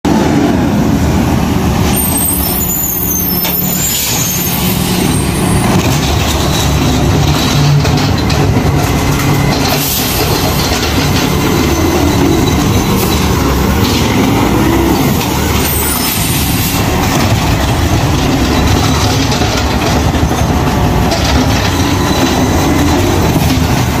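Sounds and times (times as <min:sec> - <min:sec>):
diesel truck engine running: 0:04.6 - 0:24.0.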